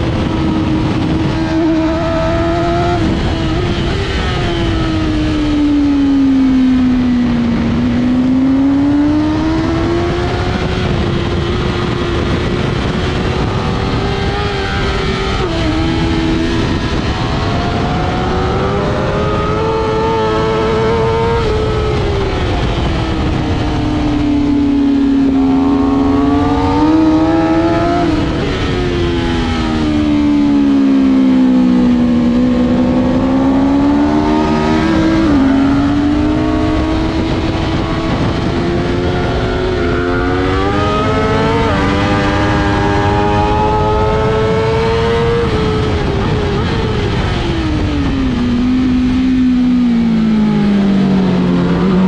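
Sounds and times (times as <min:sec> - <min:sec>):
motorcycle engine revving: 0:00.0 - 0:52.0
wind noise: 0:00.0 - 0:52.0.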